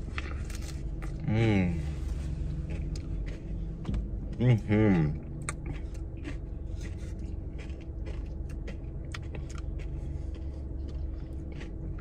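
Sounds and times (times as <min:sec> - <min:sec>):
chewing crisp waffle cone: 0:00.0 - 0:12.0
low hum inside a car: 0:00.0 - 0:12.0.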